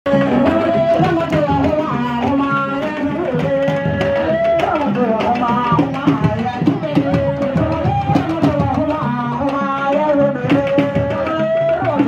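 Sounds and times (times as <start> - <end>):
fast hand drumming: 0.1 - 12.0.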